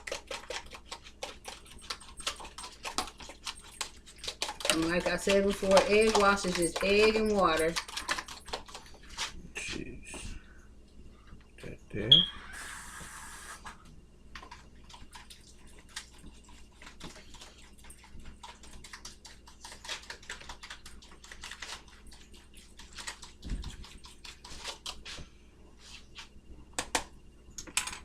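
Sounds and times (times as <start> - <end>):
steady low hum: 0.1 - 28.0.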